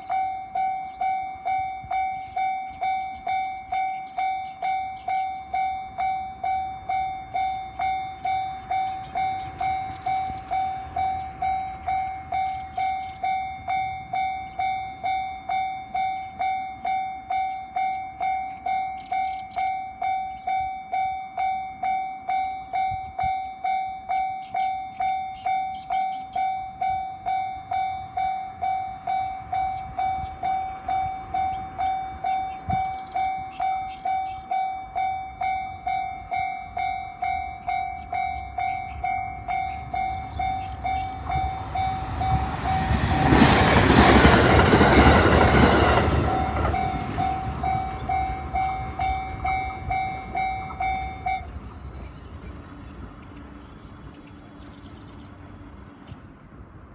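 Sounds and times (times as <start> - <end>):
railroad crossing alarm bell: 0.0 - 56.9.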